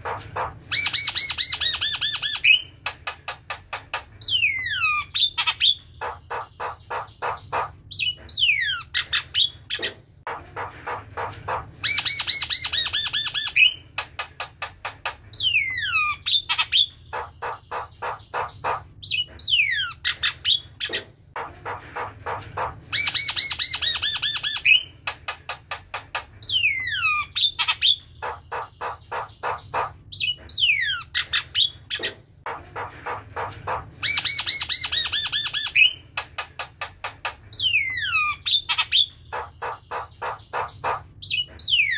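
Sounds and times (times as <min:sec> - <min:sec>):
bird singing: 0:04.1 - 0:14.4, 0:15.2 - 0:25.1, 0:26.2 - 0:36.2, 0:37.2 - 0:41.9.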